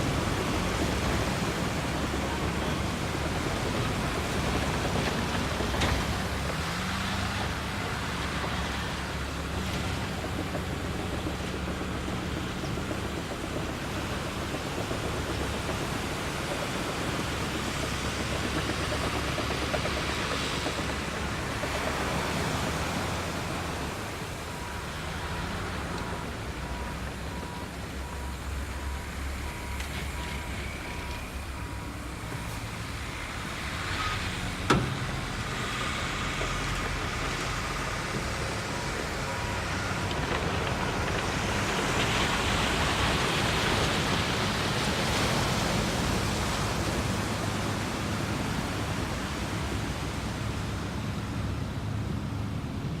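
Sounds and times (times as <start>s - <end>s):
heavy machinery engines running: 0.0s - 53.0s.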